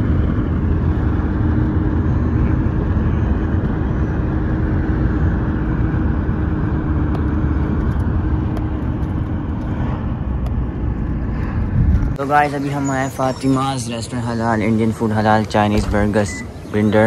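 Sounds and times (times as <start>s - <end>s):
car tyre and engine rumble: 0.0s - 17.0s
low hum: 0.0s - 17.0s.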